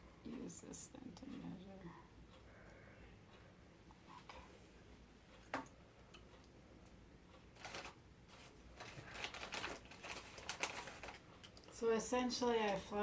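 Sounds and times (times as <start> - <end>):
faint rustling and crinkling: 0.2 - 5.6, 7.3 - 13.0.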